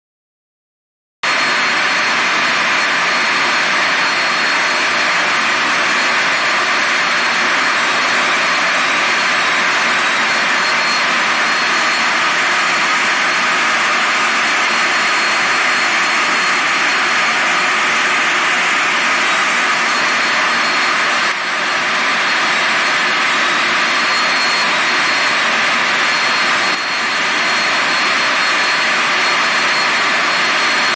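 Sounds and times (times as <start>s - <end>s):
steam venting with whistle: 1.3s - 30.9s.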